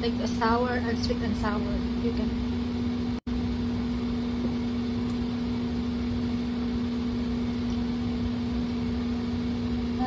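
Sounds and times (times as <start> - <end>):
electric fan motor hum: 0.0 - 10.0.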